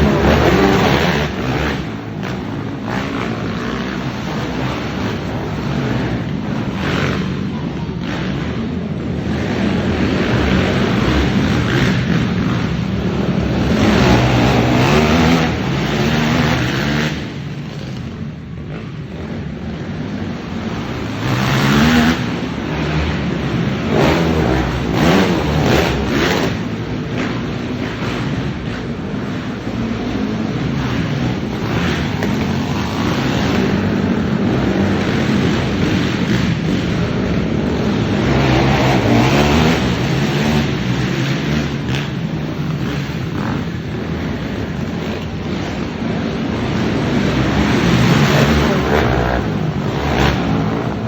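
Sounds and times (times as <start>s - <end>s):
atv engines revving: 0.0s - 51.0s.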